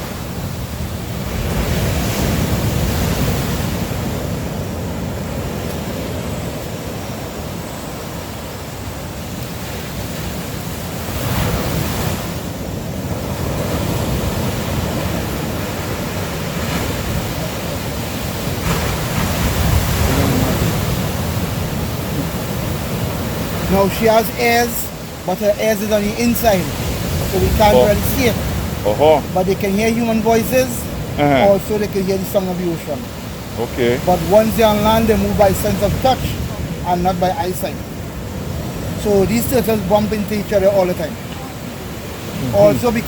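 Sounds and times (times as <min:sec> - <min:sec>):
ocean waves breaking on sand: 0:00.0 - 0:43.0.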